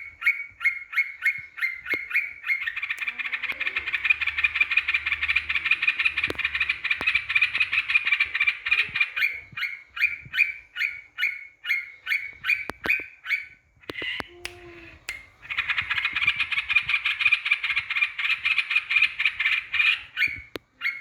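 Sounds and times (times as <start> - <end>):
bird chattering and calling: 0.0 - 21.0.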